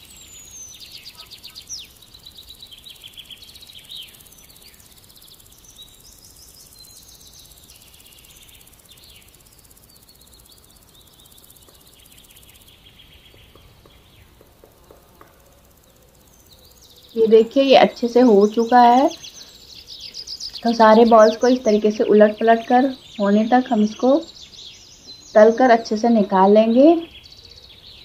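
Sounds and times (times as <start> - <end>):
high chirps: 0.0 - 27.6.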